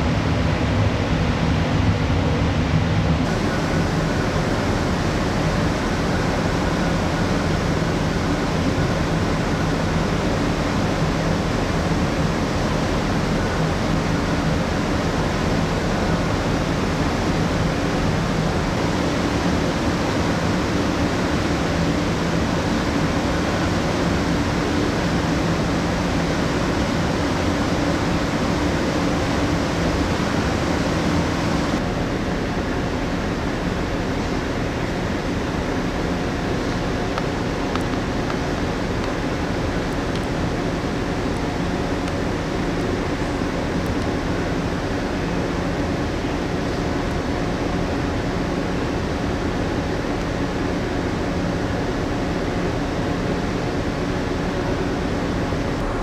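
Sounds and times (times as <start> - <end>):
low machinery hum: 0.0 - 56.0
ventilation air rushing: 0.0 - 56.0.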